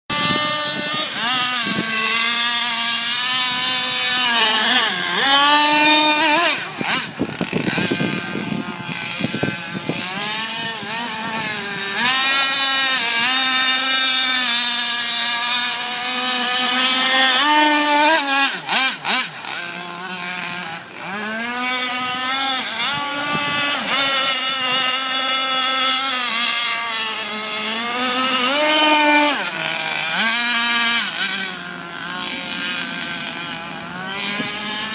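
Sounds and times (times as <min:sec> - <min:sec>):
model boat engine buzzing: 0:00.1 - 0:34.9.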